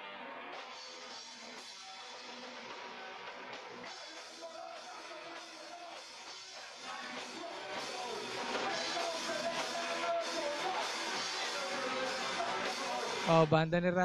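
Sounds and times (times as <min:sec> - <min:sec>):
punk rock band playing: 0:00.7 - 0:13.5.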